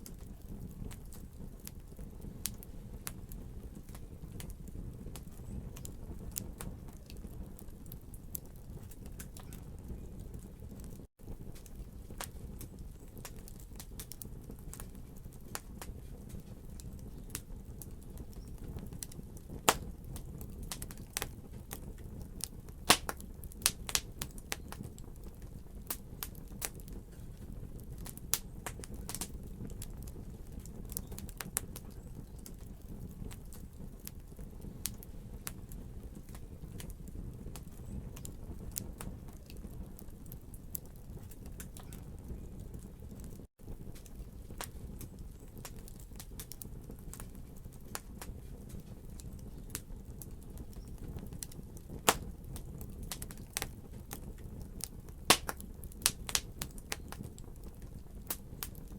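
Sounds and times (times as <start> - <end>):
fire crackling and popping: 0.0 - 58.9
low rush of flames: 0.0 - 58.9.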